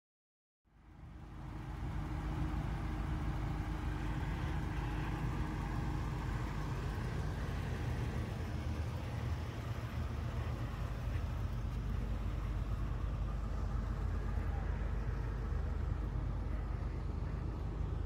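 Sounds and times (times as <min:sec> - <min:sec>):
vehicle engine idling: 0:00.7 - 0:18.0.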